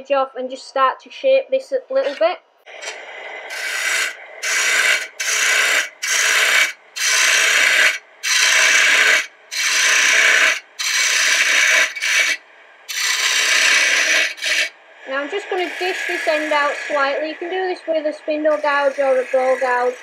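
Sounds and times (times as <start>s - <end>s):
lathe tool cutting wood: 2.8s - 17.5s, 18.4s - 20.0s.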